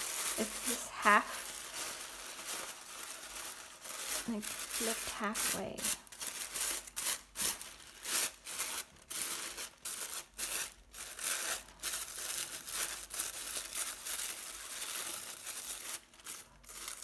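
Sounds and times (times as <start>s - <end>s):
tissue paper rustling and crinkling: 0.0s - 17.0s.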